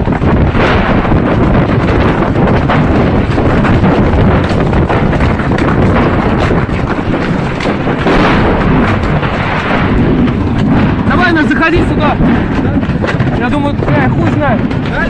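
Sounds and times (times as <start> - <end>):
explosion rumble: 0.0 - 15.0
sharp cracks: 0.0 - 15.0.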